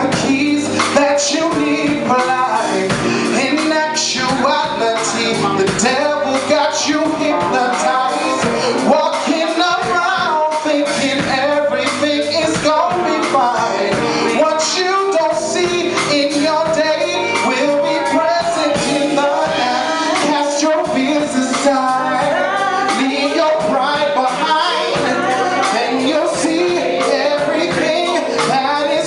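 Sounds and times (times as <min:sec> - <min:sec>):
live band playing: 0:00.0 - 0:29.0
person singing: 0:00.0 - 0:29.0.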